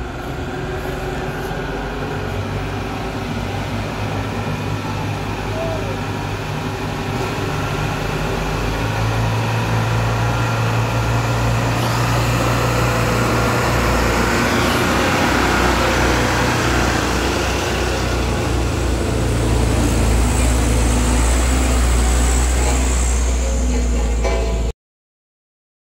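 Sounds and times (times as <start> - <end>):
road noise: 0.0 - 24.7
truck diesel engine under load: 0.0 - 24.7.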